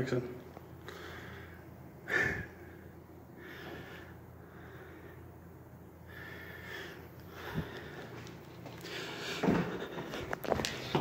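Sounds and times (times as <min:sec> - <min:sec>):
faint breathing: 0:00.8 - 0:10.9.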